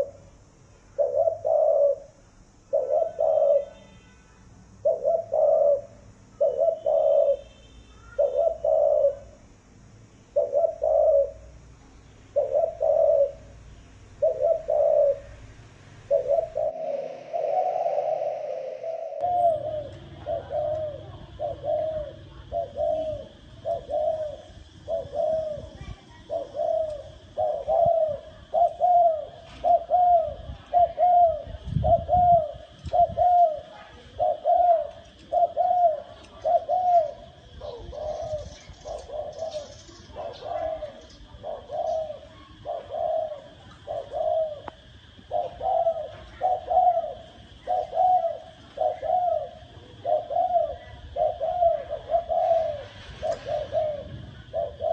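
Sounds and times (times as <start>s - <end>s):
dove cooing: 0.0s - 4.0s, 4.7s - 9.6s, 10.2s - 54.9s.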